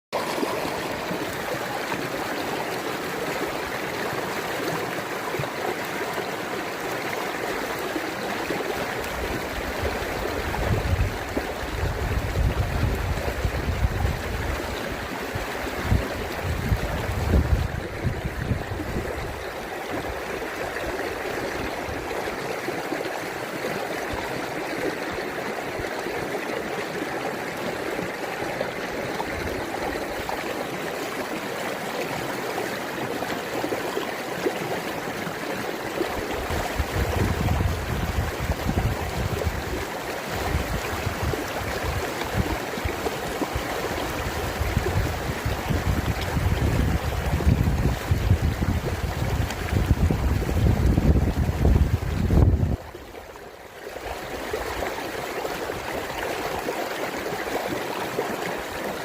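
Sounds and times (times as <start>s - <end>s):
river water flowing: 0.1s - 59.0s.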